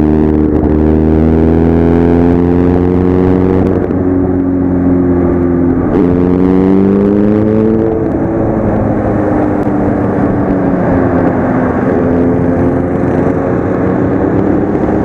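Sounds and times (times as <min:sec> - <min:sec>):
motorcycle engine running: 0:00.0 - 0:15.0
road noise: 0:00.0 - 0:15.0
wind noise: 0:00.0 - 0:15.0.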